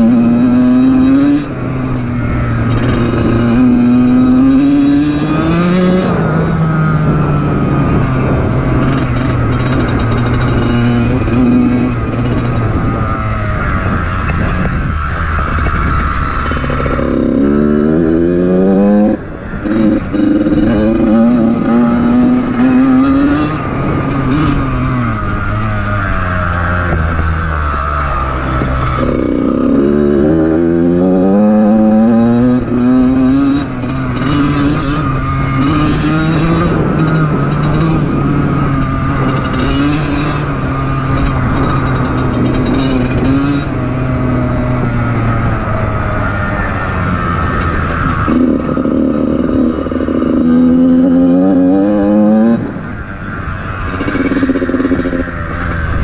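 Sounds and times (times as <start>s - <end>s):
dirt bike engine accelerating: 0.0s - 56.0s.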